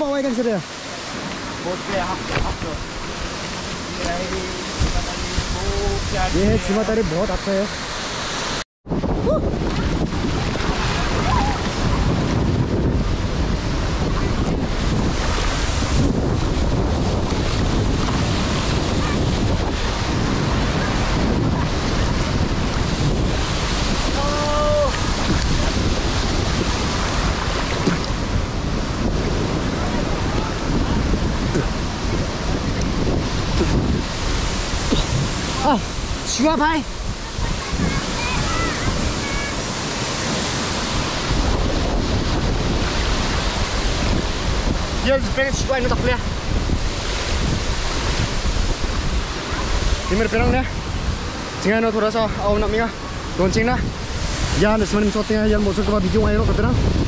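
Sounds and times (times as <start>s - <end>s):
water rushing: 0.0s - 57.0s
wind rumbling on microphone: 0.0s - 57.0s.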